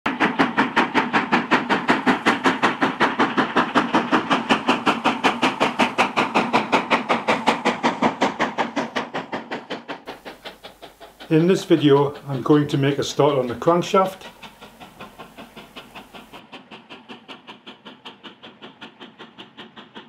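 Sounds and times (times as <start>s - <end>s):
steam locomotive chuffing: 0.1s - 20.0s.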